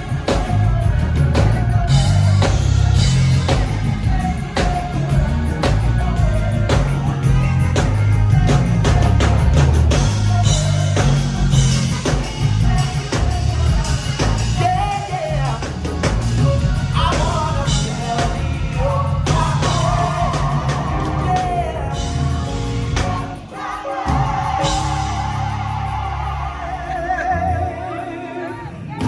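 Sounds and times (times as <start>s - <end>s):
drum kit: 0.0s - 28.1s
bass: 0.0s - 29.0s.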